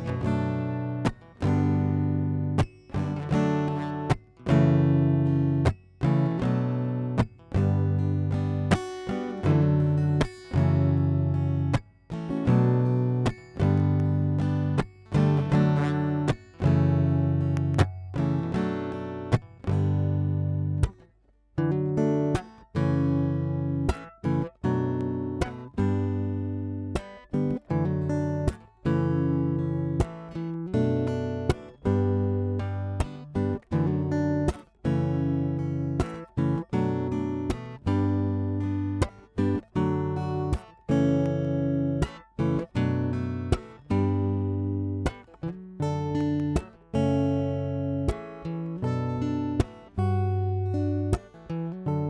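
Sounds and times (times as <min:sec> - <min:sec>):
acoustic guitar strummed: 0:00.0 - 0:52.0.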